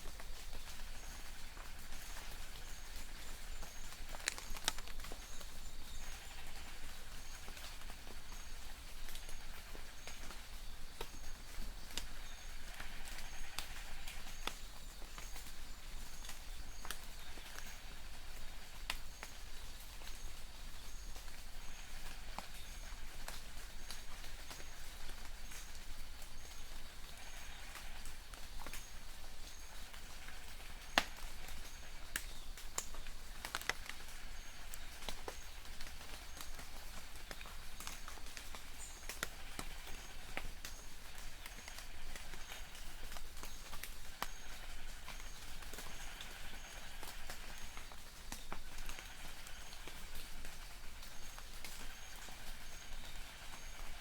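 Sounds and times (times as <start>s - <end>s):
drops ticking on leaves: 0.0s - 54.0s
light rain hiss: 0.0s - 54.0s.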